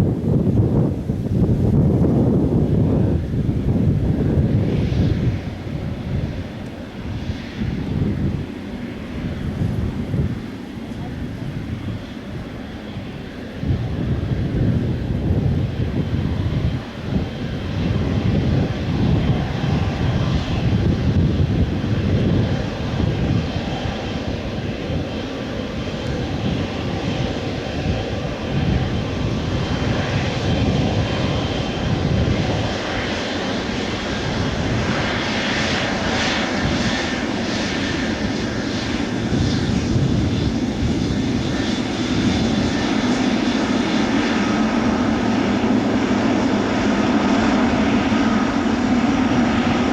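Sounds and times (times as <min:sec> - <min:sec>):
jet engines at takeoff thrust: 0:00.0 - 0:49.9.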